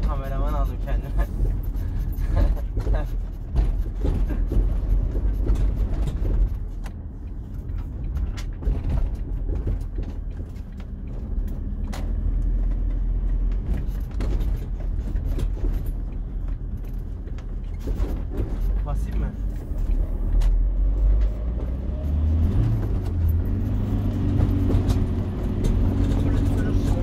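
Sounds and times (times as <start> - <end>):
van engine and road rumble: 0.0 - 27.0.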